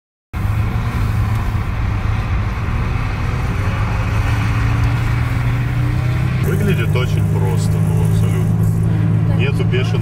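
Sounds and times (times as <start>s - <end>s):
road noise: 0.3s - 10.0s
car engine droning: 0.4s - 10.0s.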